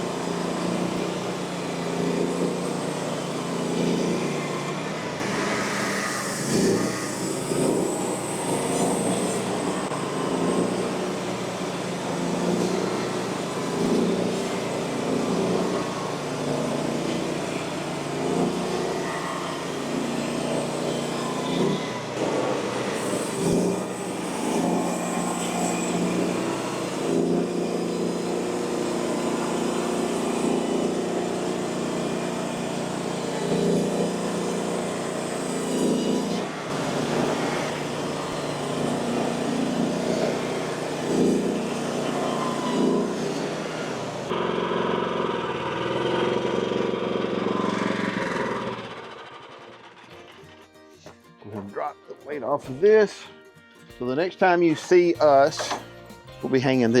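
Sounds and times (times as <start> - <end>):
sawmill engine running: 0.0 - 50.4.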